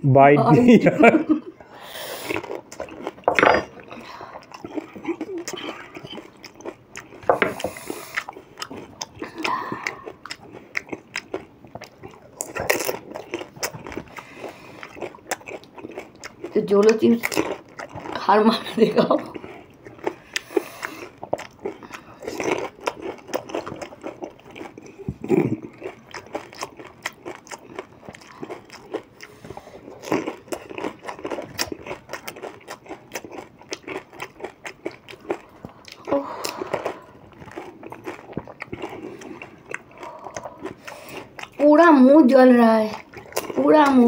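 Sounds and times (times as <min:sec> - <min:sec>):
chewing crisp shells: 0:02.3 - 0:18.3, 0:19.2 - 0:41.6, 0:43.0 - 0:44.0.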